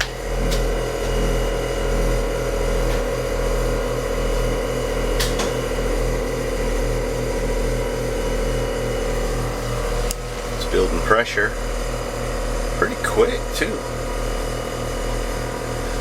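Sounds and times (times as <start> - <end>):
air compressors running: 0.0 - 16.0.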